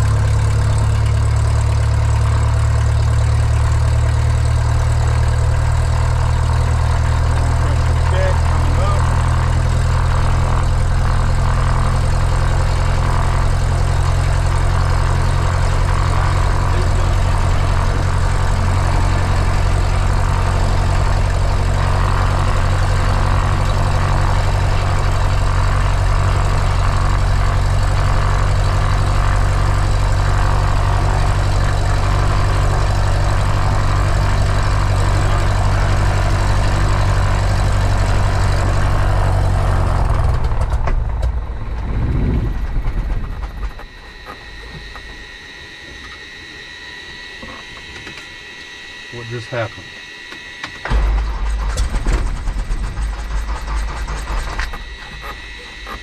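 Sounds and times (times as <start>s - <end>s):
propeller plane engine idling: 0.0s - 56.0s.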